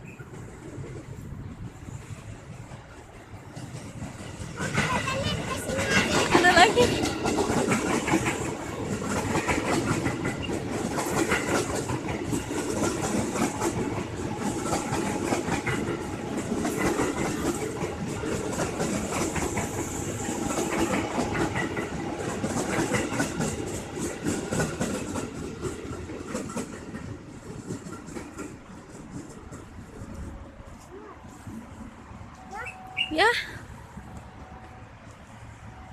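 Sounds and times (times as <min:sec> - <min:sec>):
train wheels clattering on track: 0:00.0 - 0:30.8.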